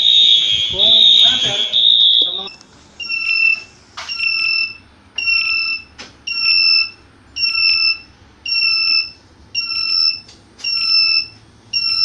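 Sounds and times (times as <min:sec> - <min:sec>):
fire alarm pulsing tone: 0:00.0 - 0:12.0.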